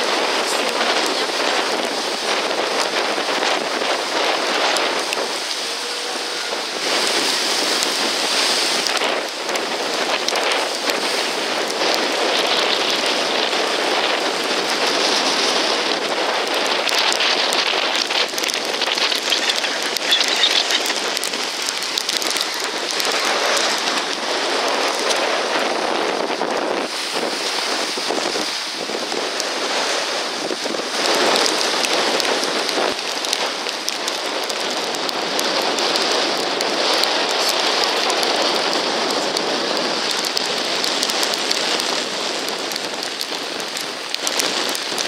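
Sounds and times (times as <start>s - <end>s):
driving rain: 0.0s - 45.0s
wind: 0.0s - 45.0s.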